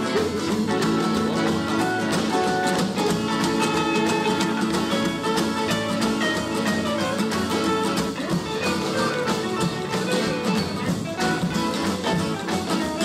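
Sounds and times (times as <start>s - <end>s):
drums: 0.0s - 13.0s
electric lead guitar: 0.0s - 13.0s
rhythm guitar: 0.0s - 13.0s
upright bass: 0.0s - 13.0s.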